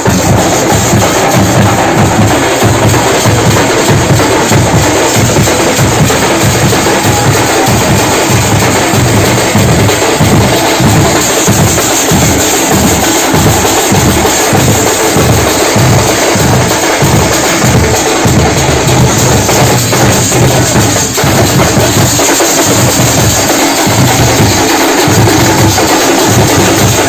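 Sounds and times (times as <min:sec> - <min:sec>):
drums played with sticks: 0:00.0 - 0:27.0
heavy low drum beats: 0:00.0 - 0:27.0.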